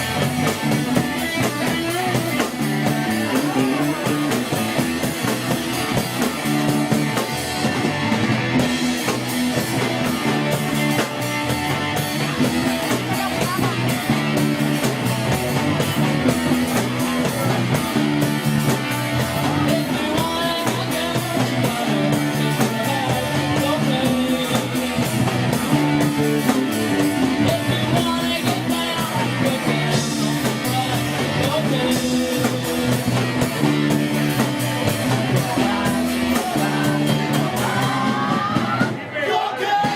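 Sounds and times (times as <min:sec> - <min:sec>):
lead guitar bending notes: 0:00.0 - 0:38.4
bass line: 0:00.0 - 0:39.0
rock band playing: 0:00.0 - 0:39.9.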